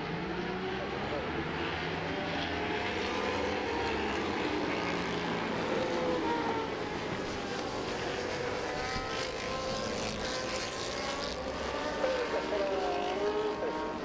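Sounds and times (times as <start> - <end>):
racing motorcycle engines droning: 0.0 - 14.0.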